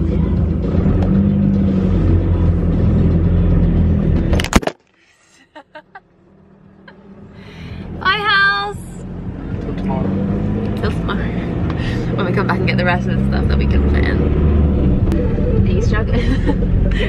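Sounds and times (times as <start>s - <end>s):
van engine droning: 0.0s - 17.0s.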